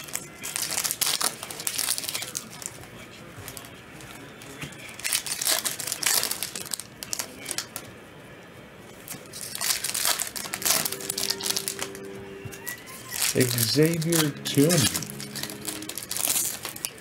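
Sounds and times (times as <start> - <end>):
card pack wrappers crinkling: 0.0 - 7.9, 9.1 - 17.0.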